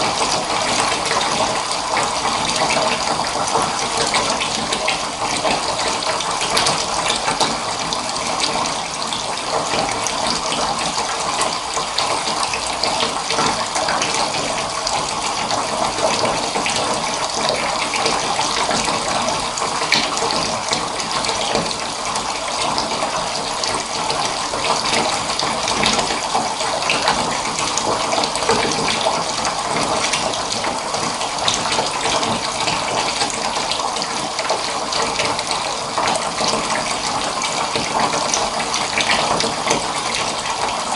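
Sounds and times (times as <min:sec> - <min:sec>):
water pouring from tap into bathtub: 0:00.0 - 0:40.9.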